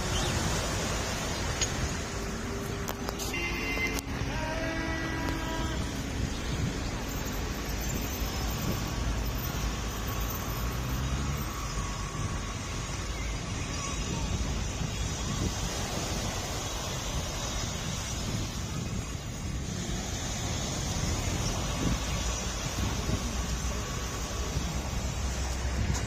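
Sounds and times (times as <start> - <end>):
wind on microphone: 0.0 - 10.1, 11.1 - 26.0
vehicle noise: 0.0 - 26.0.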